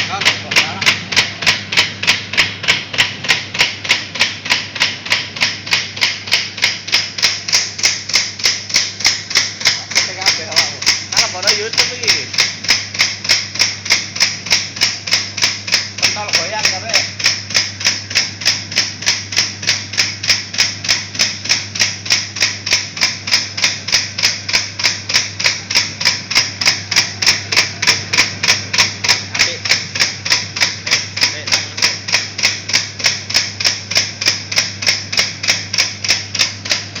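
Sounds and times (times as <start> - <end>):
low motor hum: 0.0 - 37.0
machine clicking: 0.0 - 37.0.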